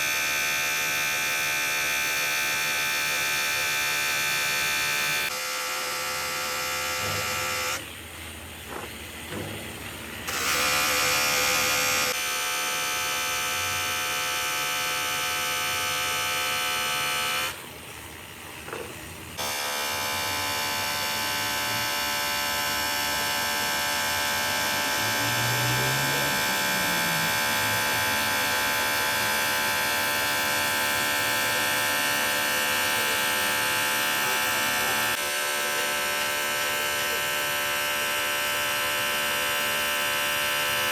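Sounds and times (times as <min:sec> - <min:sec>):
electric motor buzzing hum: 0:00.0 - 0:08.0, 0:08.6 - 0:17.6, 0:18.7 - 0:40.9.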